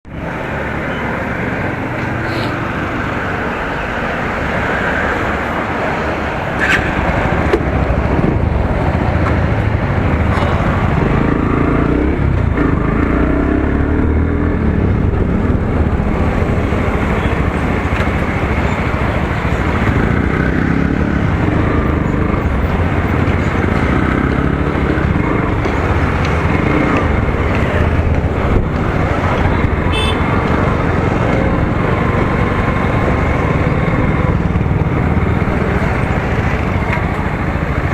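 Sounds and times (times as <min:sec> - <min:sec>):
motorcycle engine on road: 0:00.0 - 0:37.9
wind and road noise: 0:00.0 - 0:37.9.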